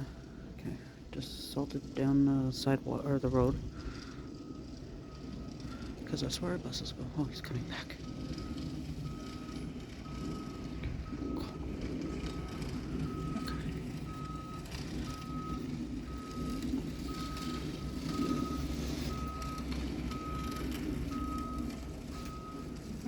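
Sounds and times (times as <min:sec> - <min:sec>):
truck backup alarm beeping: 0:00.0 - 0:23.0
truck engine rumble: 0:00.0 - 0:23.0.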